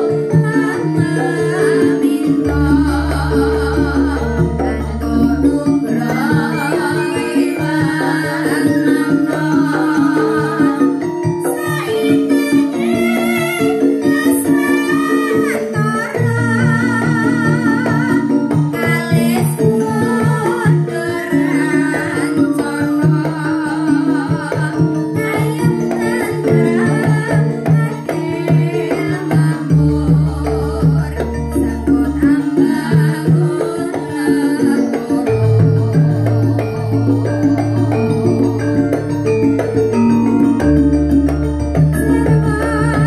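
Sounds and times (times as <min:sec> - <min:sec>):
women singing: 0:00.0 - 0:43.0.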